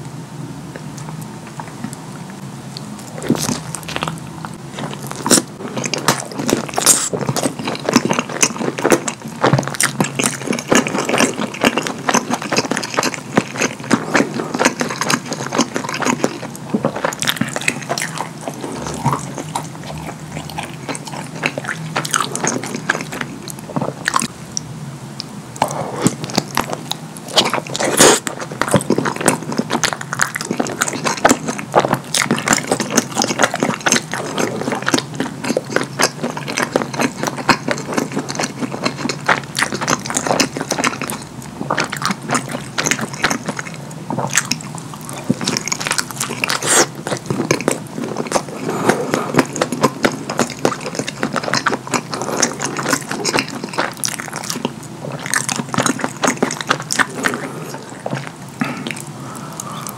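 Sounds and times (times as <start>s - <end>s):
wet chewing and lip smacking: 0.8s - 24.3s, 25.2s - 59.9s.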